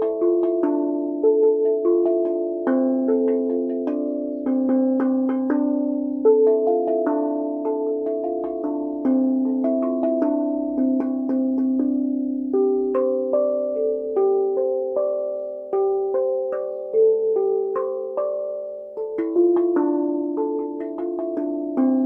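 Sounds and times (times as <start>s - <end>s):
steel tongue drum notes: 0.0s - 22.0s.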